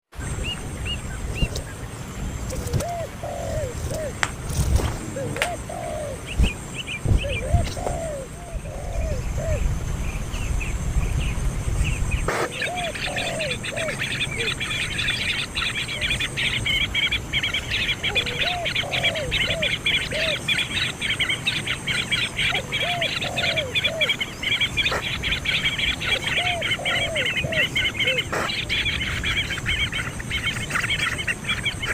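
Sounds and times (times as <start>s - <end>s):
lower arched bird calls: 0.2s - 31.9s
baby birds begging chatter: 0.4s - 9.7s, 12.2s - 31.9s.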